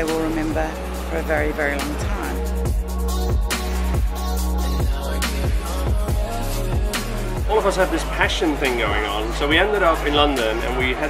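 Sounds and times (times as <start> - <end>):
deep sustained bass: 0.0 - 11.0
electronic music with steady beat: 0.0 - 11.0.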